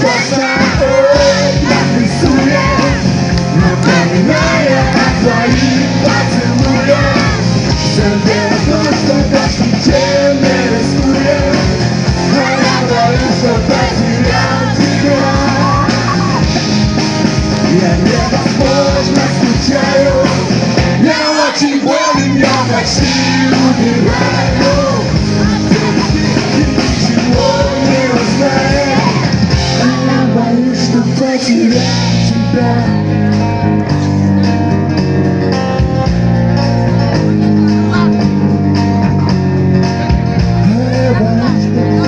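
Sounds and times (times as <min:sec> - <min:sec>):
acoustic band playing: 0:00.0 - 0:42.0.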